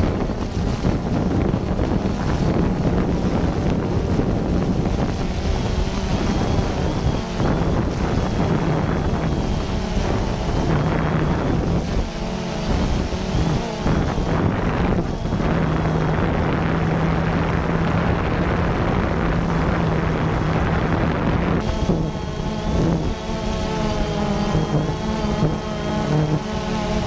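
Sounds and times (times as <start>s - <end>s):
low mechanical hum: 0.0s - 27.0s
wind buffeting microphone: 0.0s - 27.0s.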